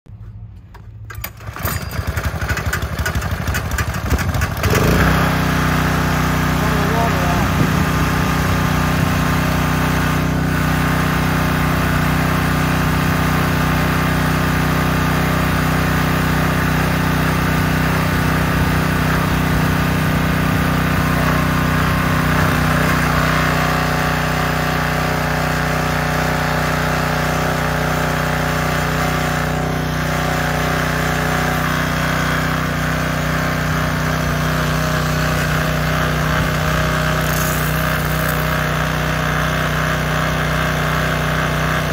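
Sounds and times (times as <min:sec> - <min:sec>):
small engine running: 0:01.1 - 0:41.9.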